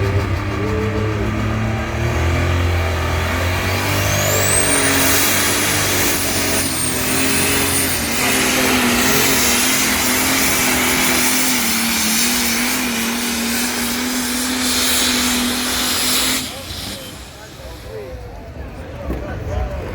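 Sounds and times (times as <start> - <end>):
tractor engine at high revs: 0.0 - 18.3.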